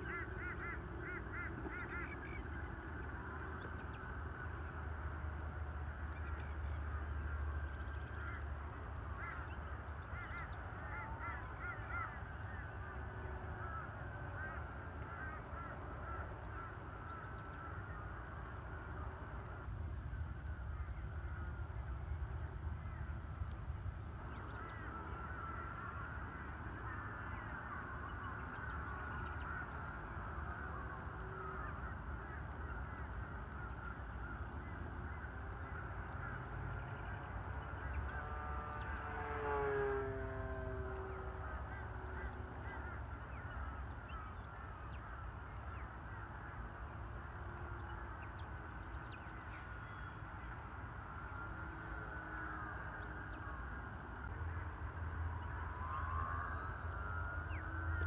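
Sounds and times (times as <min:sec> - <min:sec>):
rc airplane electric motor whine: 0:00.0 - 0:58.0.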